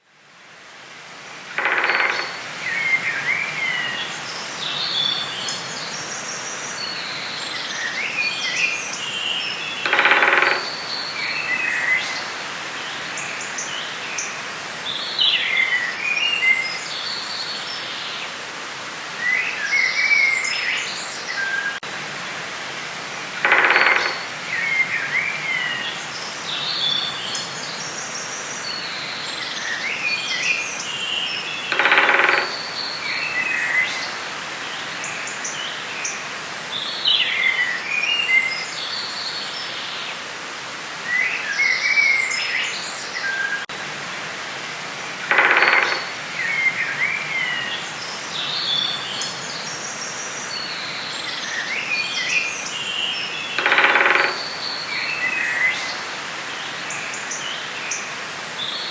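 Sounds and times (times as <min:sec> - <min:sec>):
steady background hiss: 0:00.0 - 0:58.9
songbirds chirping and warbling: 0:01.6 - 0:18.4, 0:23.4 - 0:40.3, 0:45.0 - 0:58.9.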